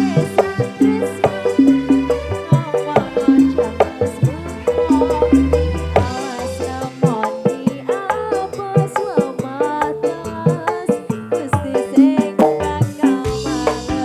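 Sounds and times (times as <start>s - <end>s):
hand drum strikes: 0.0s - 14.0s
live band through pa: 0.0s - 14.0s.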